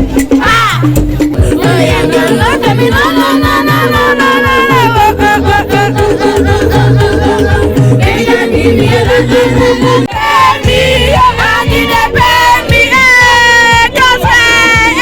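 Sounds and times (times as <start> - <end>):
loud party music with singing: 0.0 - 15.0.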